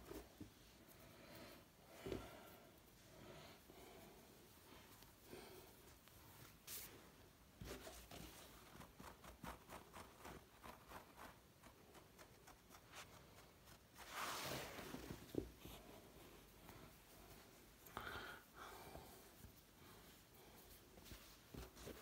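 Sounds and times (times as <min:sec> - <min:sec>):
rustling and scratching on rug: 0:00.0 - 0:17.8, 0:19.1 - 0:22.0.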